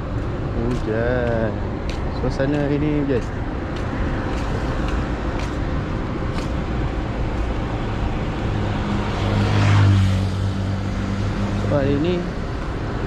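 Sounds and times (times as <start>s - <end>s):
low engine hum: 0.0s - 13.0s
vehicle and road noise: 0.0s - 13.0s.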